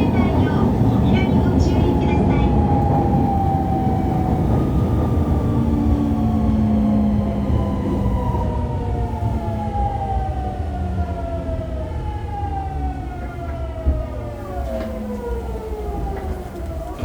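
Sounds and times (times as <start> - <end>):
train motors whining: 0.0 - 17.0
train running gear rumble: 0.0 - 17.0.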